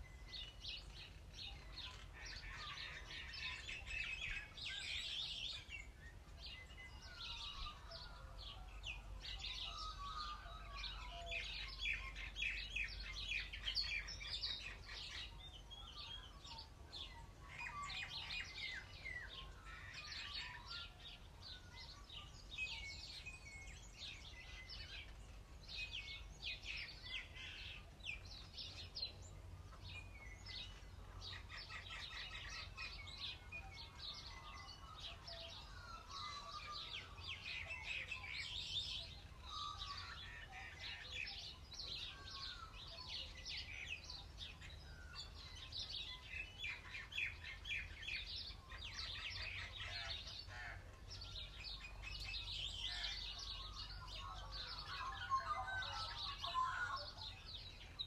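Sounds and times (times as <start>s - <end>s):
birdsong chorus: 0.0s - 58.0s.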